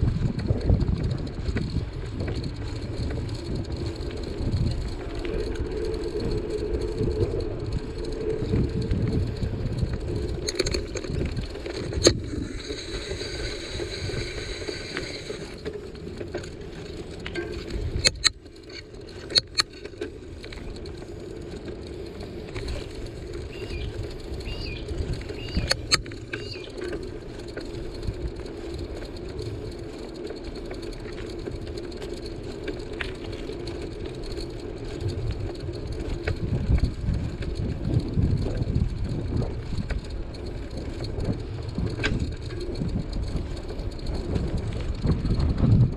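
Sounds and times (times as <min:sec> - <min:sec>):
bicycle tyre and wind rumble: 0:00.0 - 0:45.9
bike clicks and rattles: 0:00.0 - 0:45.9.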